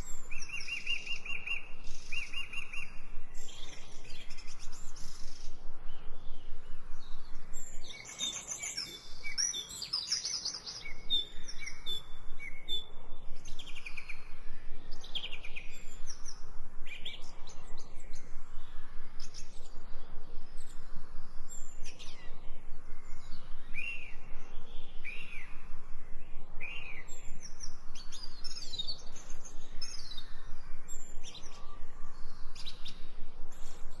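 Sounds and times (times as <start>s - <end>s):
small birds chirping and whistling: 0.0s - 34.0s.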